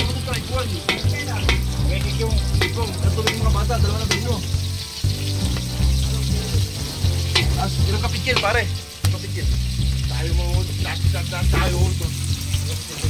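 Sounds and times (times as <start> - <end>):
food sizzling in hot oil: 0.0 - 13.0
music with deep bass: 0.0 - 13.0.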